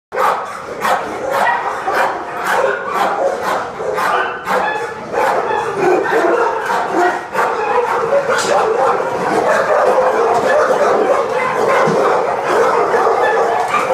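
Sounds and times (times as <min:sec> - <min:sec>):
dogs barking and yipping: 0:00.1 - 0:13.9.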